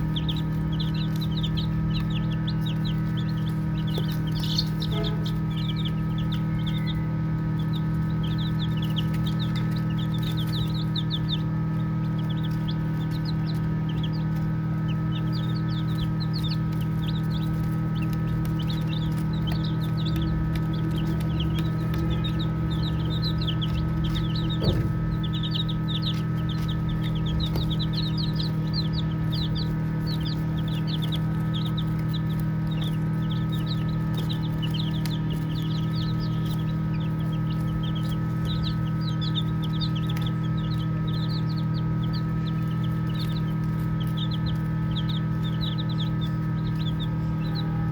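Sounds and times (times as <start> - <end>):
baby chicks peeping: 0.0 - 47.9
steady low hum: 0.0 - 47.9.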